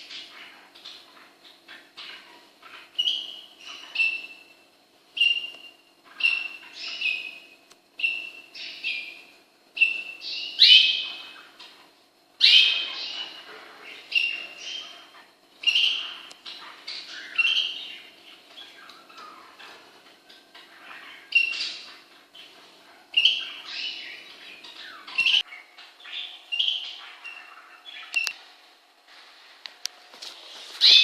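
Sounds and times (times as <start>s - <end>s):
cockatiels chirping: 0.0s - 4.4s, 5.2s - 7.4s, 8.0s - 9.2s, 9.8s - 11.8s, 12.4s - 28.4s, 30.8s - 31.0s.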